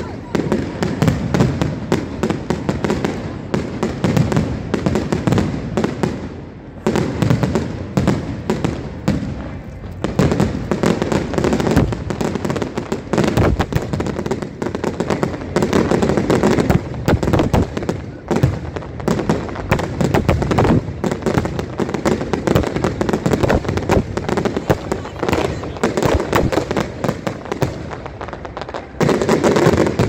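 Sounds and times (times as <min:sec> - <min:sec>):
fireworks bangs and crackle: 0:00.0 - 0:30.0.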